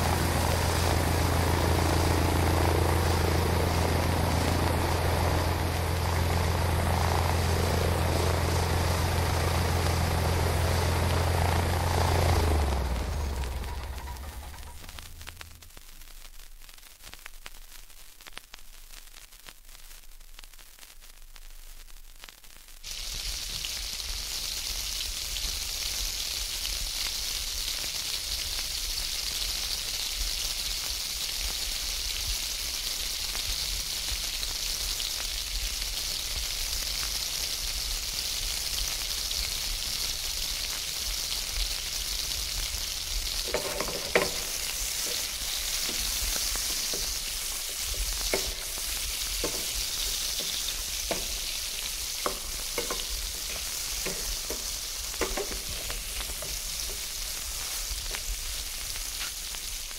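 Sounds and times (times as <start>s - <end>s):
bacon sizzling in a pan: 0.0s - 59.9s
faint crackle with clicks: 0.1s - 23.8s, 33.0s - 59.9s.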